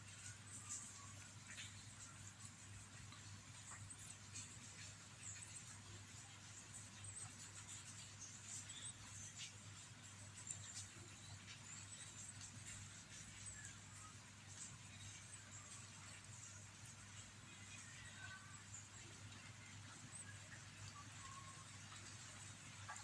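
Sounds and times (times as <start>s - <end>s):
faint high-pitched chirps: 0.0s - 23.0s.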